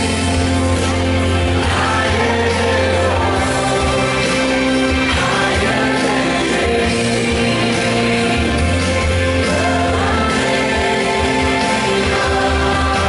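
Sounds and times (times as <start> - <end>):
instrumental accompaniment with bass line: 0.0 - 13.0
person singing: 1.3 - 13.0.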